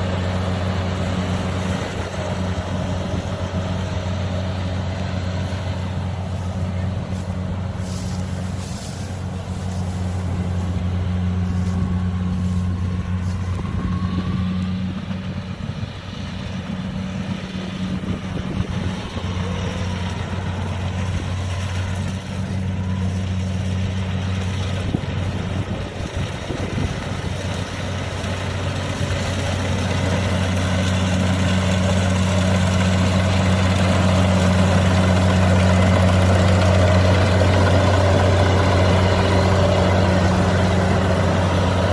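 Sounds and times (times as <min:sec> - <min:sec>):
diesel machinery engine running: 0:00.0 - 0:41.9.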